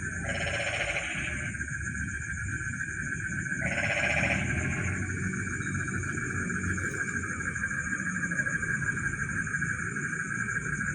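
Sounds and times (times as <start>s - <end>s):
crickets and insects trilling: 0.0s - 10.9s
loud insect call: 0.0s - 10.9s.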